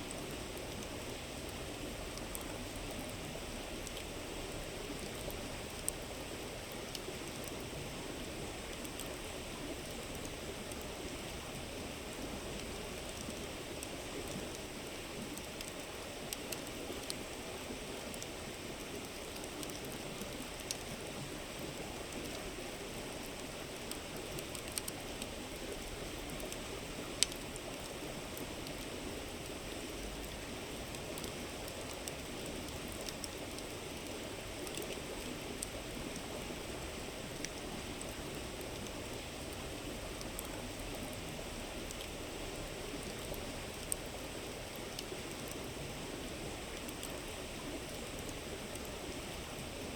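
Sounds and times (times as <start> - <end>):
campfire crackling: 8.7 - 49.7.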